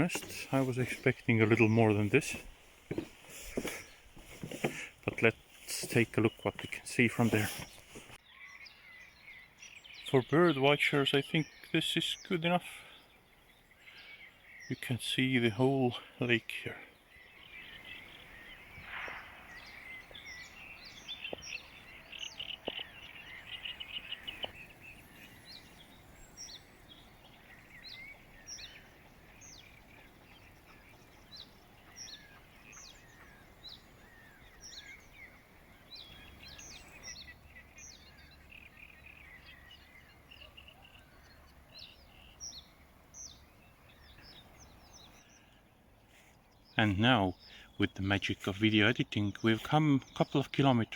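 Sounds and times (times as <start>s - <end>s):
buzzy bird chatter: 0.0s - 8.2s, 9.9s - 45.5s, 46.1s - 50.9s
birds chirping and calling: 0.0s - 50.9s
faint outdoor background: 0.0s - 50.9s.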